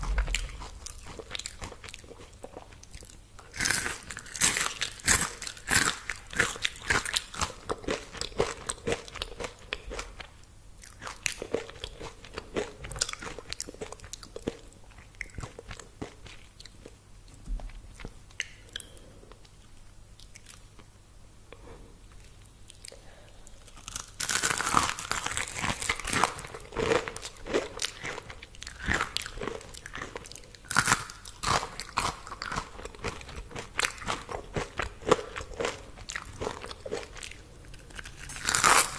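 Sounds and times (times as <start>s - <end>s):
crunching crispy food: 0.0s - 16.9s, 23.6s - 38.9s.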